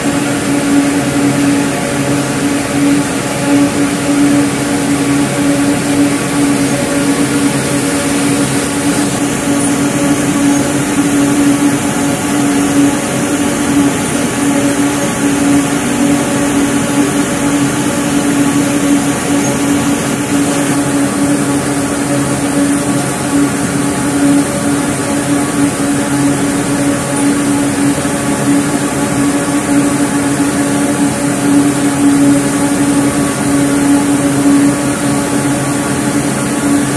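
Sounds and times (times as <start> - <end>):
spinning machine humming: 0.0 - 36.9.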